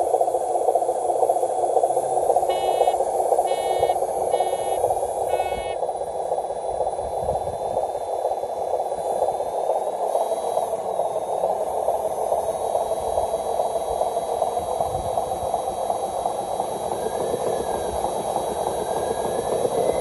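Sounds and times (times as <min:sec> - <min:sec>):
model truck drive mechanical noise: 0:00.0 - 0:20.0.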